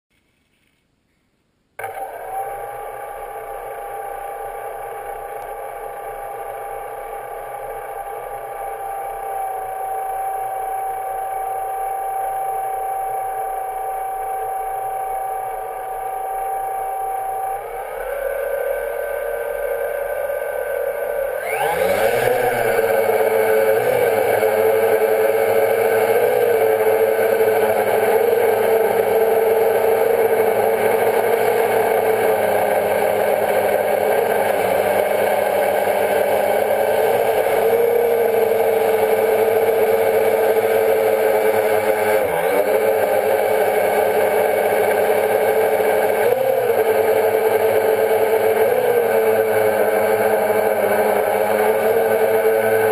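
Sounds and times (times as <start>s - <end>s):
drone propellers whining: 1.8s - 52.9s.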